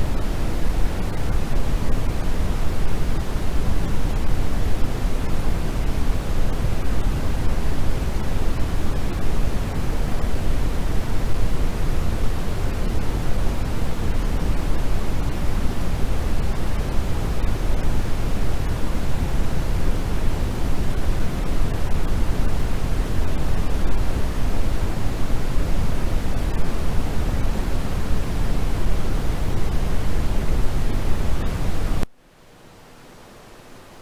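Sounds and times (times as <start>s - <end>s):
faint hiss: 0.0s - 34.0s
low steady hiss: 0.0s - 34.0s.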